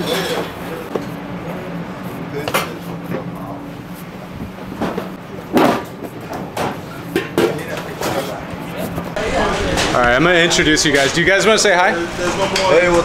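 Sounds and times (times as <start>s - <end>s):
low kitchen equipment hum: 0.0s - 13.0s.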